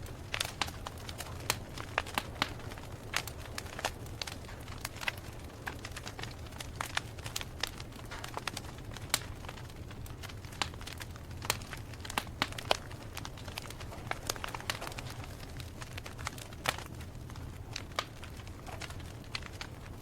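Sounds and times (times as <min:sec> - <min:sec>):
campfire crackling: 0:00.0 - 0:20.0
fire pops and snaps: 0:00.0 - 0:20.0.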